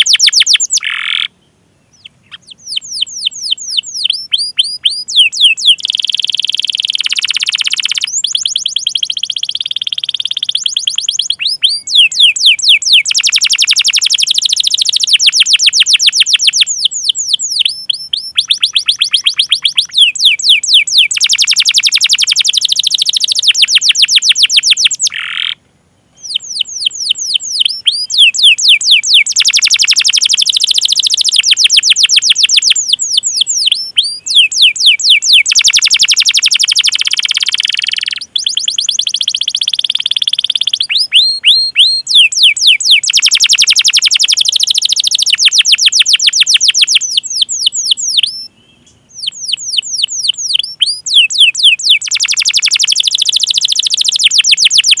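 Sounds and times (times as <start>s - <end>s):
canary singing trills: 0.0s - 25.6s, 26.2s - 55.0s.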